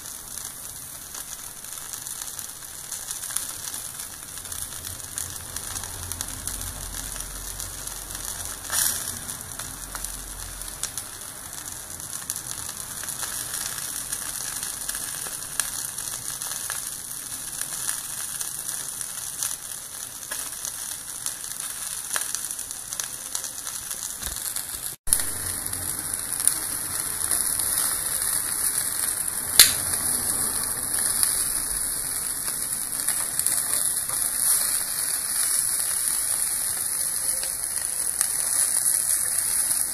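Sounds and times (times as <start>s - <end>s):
fat crackling and popping: 0.0s - 39.9s
sausages sizzling on grill: 0.0s - 39.9s.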